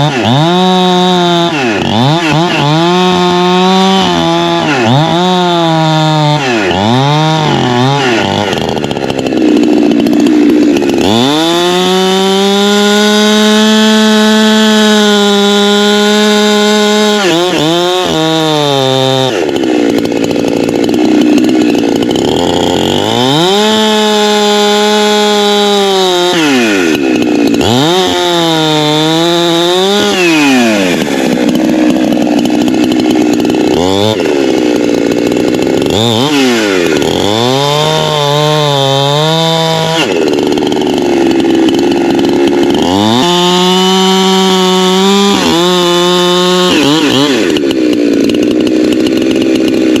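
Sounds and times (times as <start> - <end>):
chainsaw cutting wood: 0.0 - 50.0.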